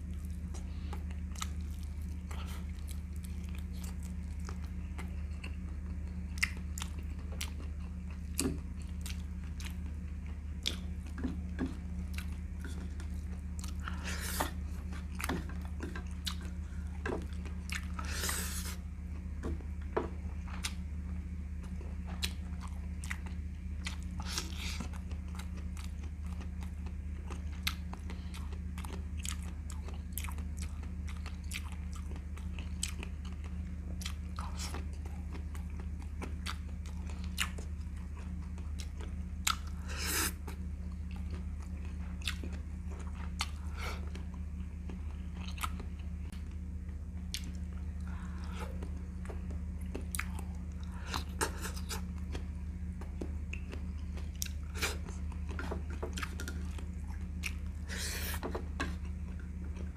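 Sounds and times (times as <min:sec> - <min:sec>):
person chewing and lip smacking: 0:00.0 - 0:19.7, 0:20.4 - 0:20.9, 0:21.6 - 0:46.6, 0:47.2 - 0:59.9
steady low hum: 0:00.0 - 0:59.9.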